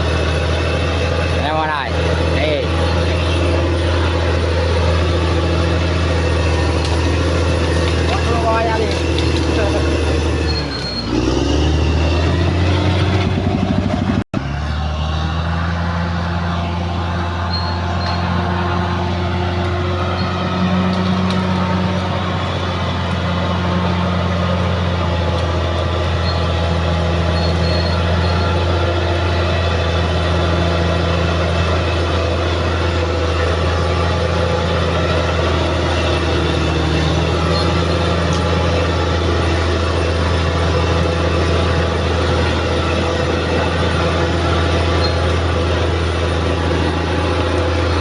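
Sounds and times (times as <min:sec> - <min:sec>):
bulldozer diesel engine droning: 0:00.0 - 0:48.0.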